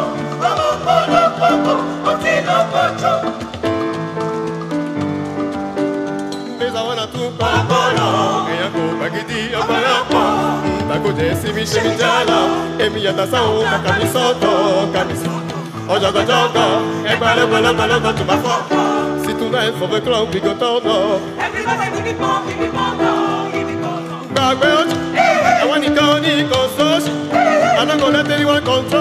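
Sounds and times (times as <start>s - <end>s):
choir singing: 0.0s - 3.6s, 7.2s - 20.0s, 21.1s - 28.1s
lead singer on a microphone: 0.0s - 4.3s, 6.4s - 29.0s
live instrumental backing: 0.0s - 29.0s.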